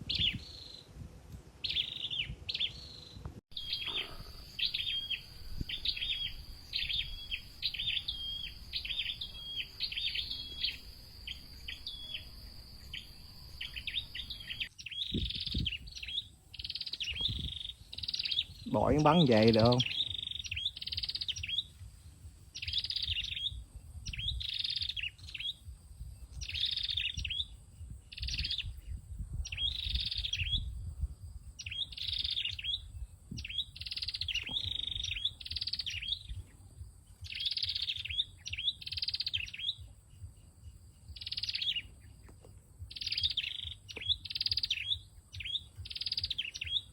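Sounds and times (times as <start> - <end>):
songbird chirping: 0.0 - 1.0, 1.6 - 46.9.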